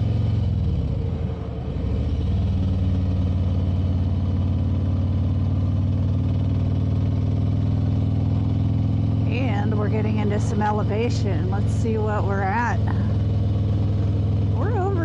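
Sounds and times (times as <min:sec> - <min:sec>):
motorcycle engine while riding: 0:00.0 - 0:15.0.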